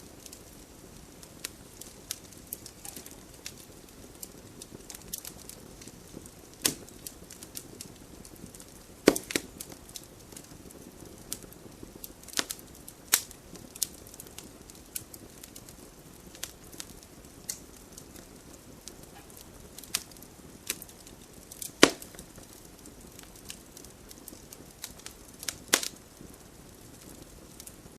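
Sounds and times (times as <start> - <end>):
campfire crackling and popping: 0.0 - 27.9
soft steady hiss: 0.0 - 27.9.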